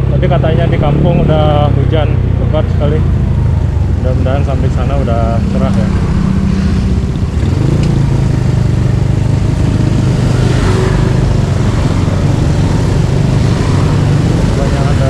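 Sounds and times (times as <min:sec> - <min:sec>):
road noise: 0:00.0 - 0:15.0
scooter engine running: 0:00.1 - 0:15.0.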